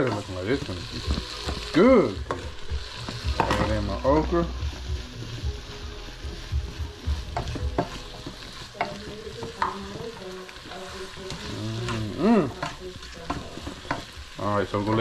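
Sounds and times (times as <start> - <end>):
vegetables sizzling: 0.0 - 15.0.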